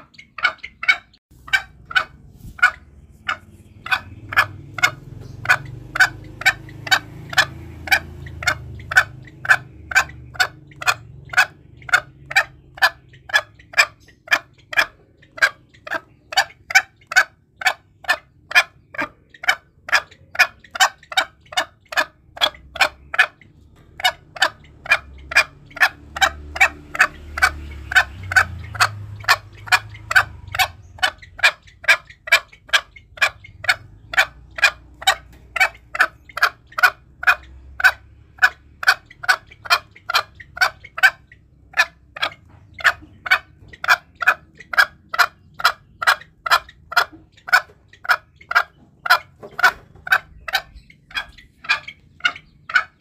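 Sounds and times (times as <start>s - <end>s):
junglefowl clucking: 0.0s - 53.0s.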